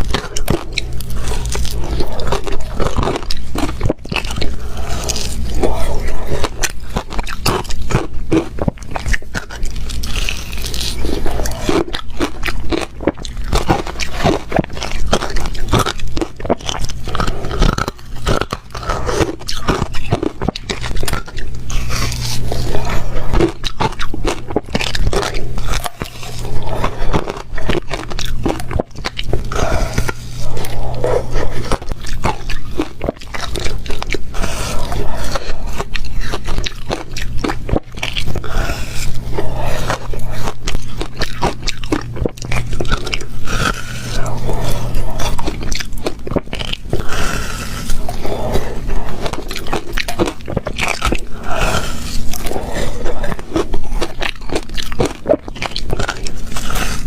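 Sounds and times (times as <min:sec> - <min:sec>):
ice cubes crunched by chewing: 0:00.0 - 0:57.0
steady low hum: 0:00.0 - 0:57.0.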